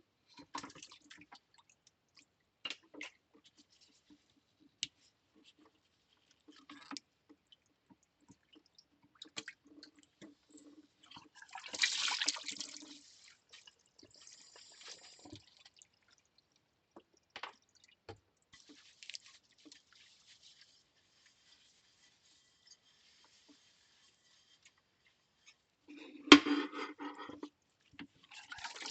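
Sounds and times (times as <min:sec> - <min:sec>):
water dripping and splashing: 0:00.2 - 0:26.0, 0:27.1 - 0:28.9.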